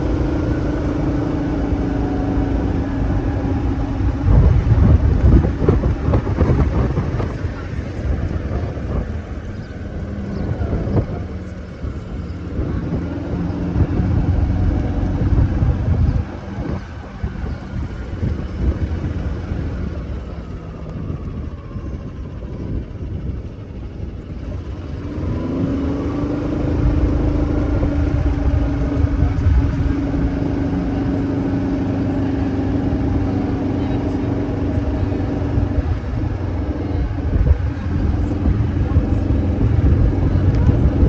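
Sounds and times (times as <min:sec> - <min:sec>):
golf cart motor: 0:00.0 - 0:41.0
low rumble: 0:00.0 - 0:41.0.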